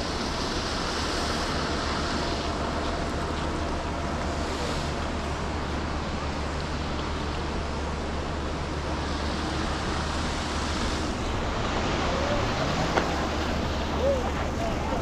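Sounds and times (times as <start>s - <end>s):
tyres hissing on wet road: 0.0s - 15.0s
car engine hum: 1.6s - 15.0s.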